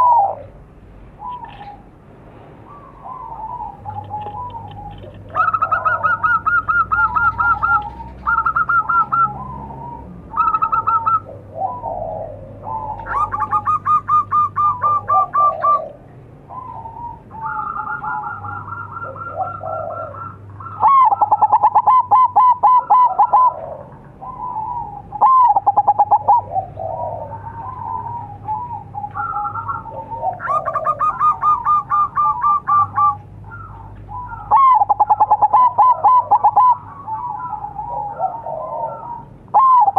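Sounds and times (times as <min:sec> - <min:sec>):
doves cooing: 0:00.0 - 0:02.0, 0:02.6 - 0:39.9.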